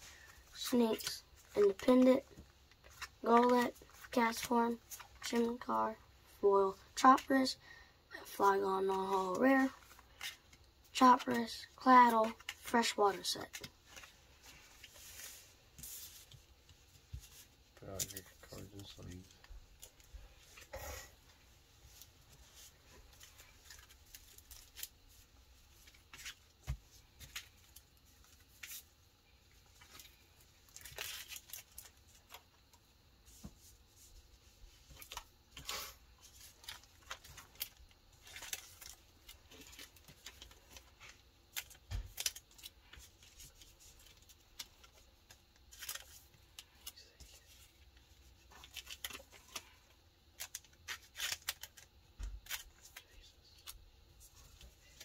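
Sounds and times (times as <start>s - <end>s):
cards rustling in plastic sleeves: 0.0s - 20.8s, 21.7s - 32.5s, 33.3s - 55.0s.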